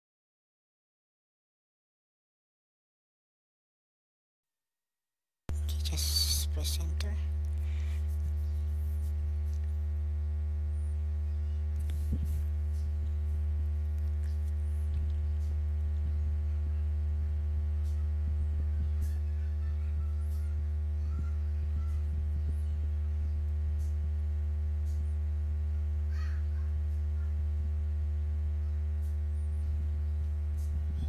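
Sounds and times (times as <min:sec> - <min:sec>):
electrical mains hum: 0:05.5 - 0:31.0.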